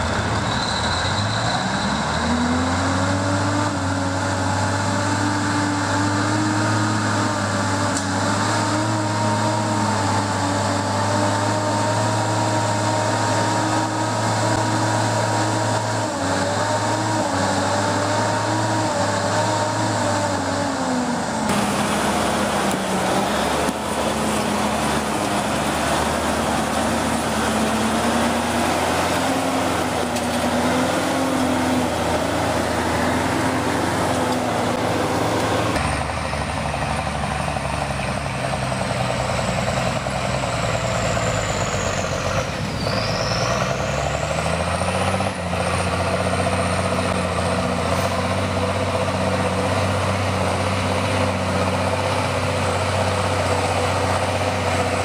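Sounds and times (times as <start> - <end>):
truck engine running hard: 0.0 - 55.0.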